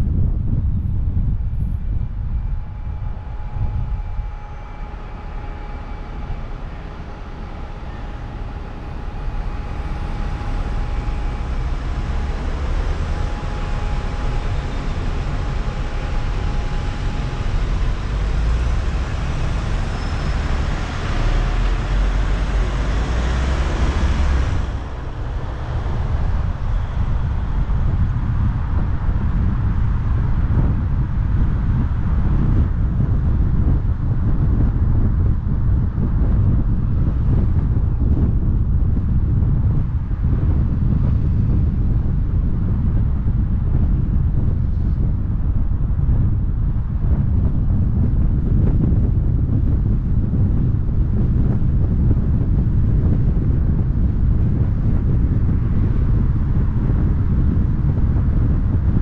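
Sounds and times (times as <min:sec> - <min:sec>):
car road noise with low rumble: 0:00.0 - 0:59.0.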